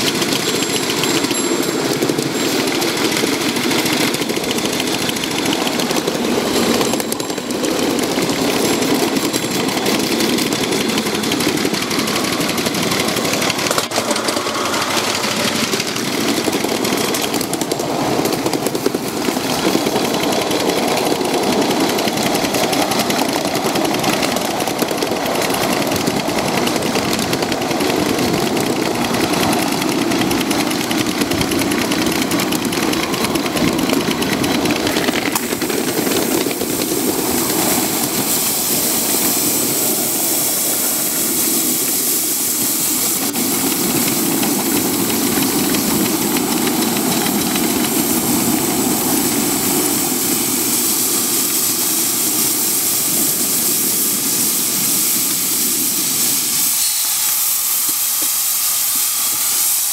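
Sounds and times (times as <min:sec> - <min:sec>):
steam hiss: 0:00.0 - 0:59.9
steam locomotive exhaust chuffing: 0:00.0 - 0:59.9
wheels clattering on rail: 0:00.0 - 0:59.9.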